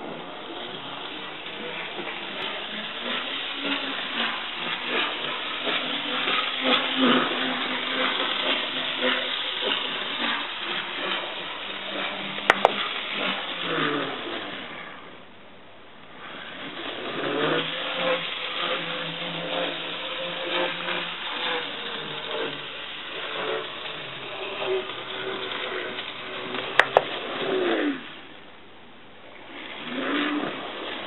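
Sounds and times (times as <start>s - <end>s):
wheels rattling on track: 0.0s - 15.0s, 16.2s - 28.1s
model locomotive motor whining: 0.0s - 15.2s, 16.1s - 28.4s, 29.3s - 31.0s.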